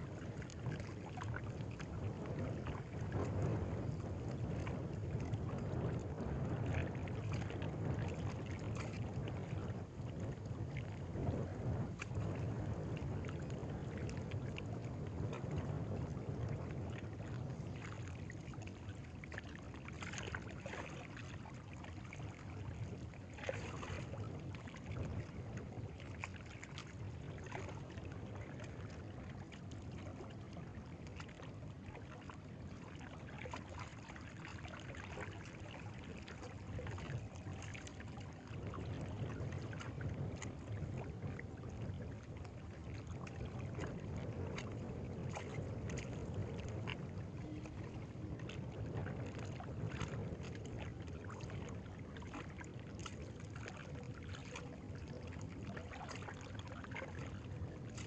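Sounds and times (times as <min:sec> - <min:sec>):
water lapping: 0:00.0 - 0:58.0
wind rumble on microphone: 0:00.0 - 0:58.0.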